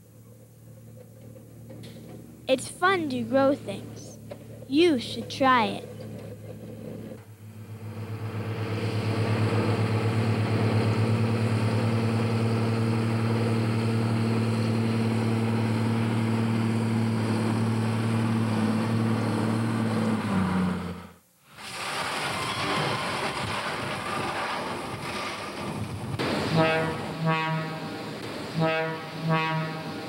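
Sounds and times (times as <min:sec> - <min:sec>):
diesel tractor running under load: 0:00.1 - 0:27.2.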